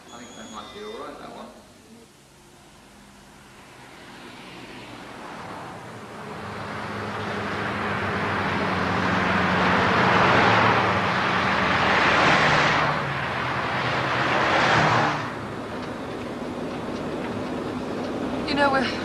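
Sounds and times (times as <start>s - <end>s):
motorway traffic passing: 2.1s - 19.0s.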